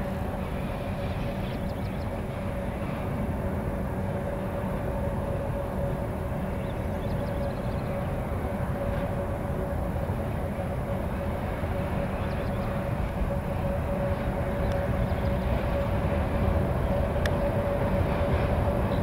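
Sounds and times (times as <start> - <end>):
locomotive engine rumble: 0.0 - 19.0.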